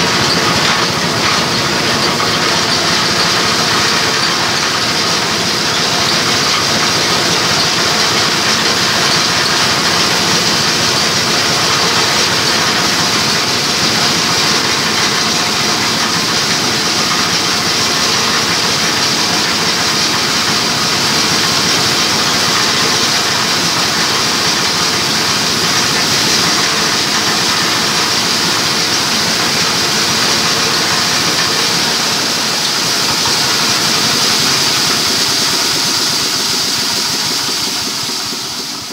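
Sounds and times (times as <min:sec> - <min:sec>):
diesel engine driving grinding mill: 0:00.0 - 0:38.9.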